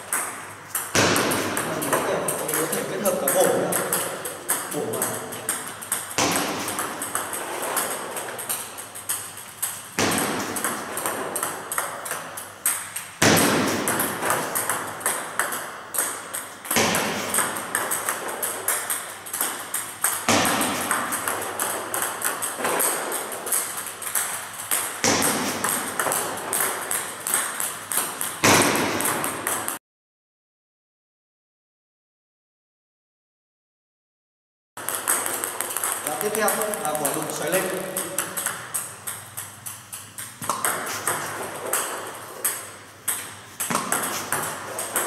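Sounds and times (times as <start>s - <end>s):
table tennis ball hitting paddle: 0.0s - 29.8s, 34.8s - 45.0s
ball bouncing on table: 0.1s - 29.8s, 34.8s - 45.0s.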